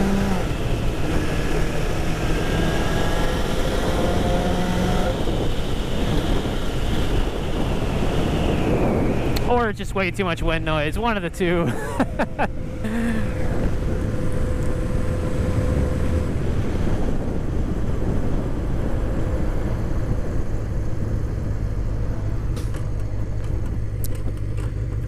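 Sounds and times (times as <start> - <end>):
motorcycle engine running: 0.0 - 10.5, 11.1 - 25.0
wind noise on microphone: 0.0 - 25.0.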